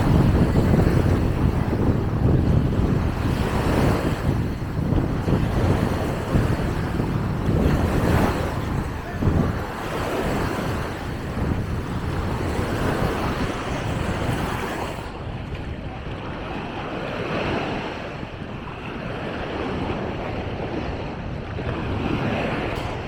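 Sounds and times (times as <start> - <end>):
waves washing onto beach: 0.0 - 23.0
wind rumbling on microphone: 0.0 - 23.0.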